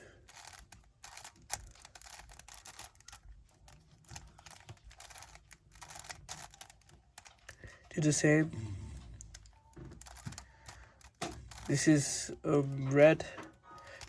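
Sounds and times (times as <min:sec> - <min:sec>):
plastic puzzle cube clicks: 0:00.3 - 0:08.2, 0:09.2 - 0:12.9.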